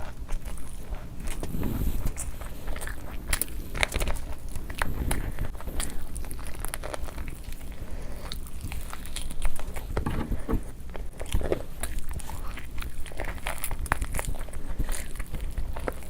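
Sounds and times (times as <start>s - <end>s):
person chewing and biting food: 0.0s - 16.0s.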